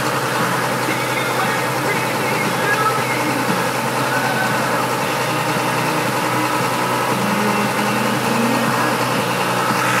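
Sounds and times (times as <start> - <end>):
constant rushing noise: 0.0 - 10.0
vehicle engine running: 0.0 - 10.0.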